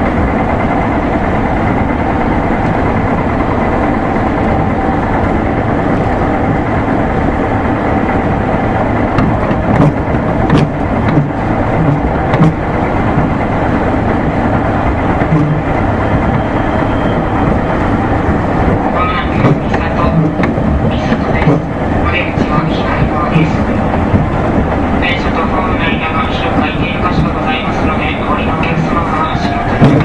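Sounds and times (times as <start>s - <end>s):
train clunks: 0.0s - 30.0s
train wheels rumbling on rail: 0.0s - 30.0s.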